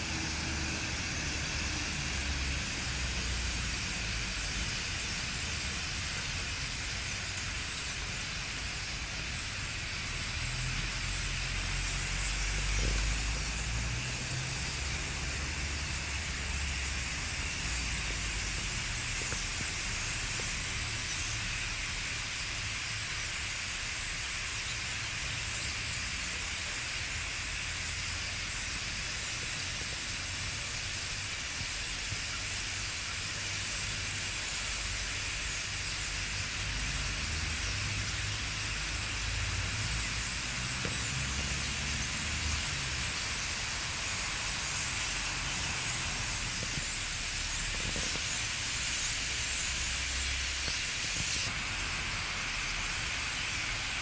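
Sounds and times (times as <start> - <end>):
starlings chattering: 0.0 - 54.0.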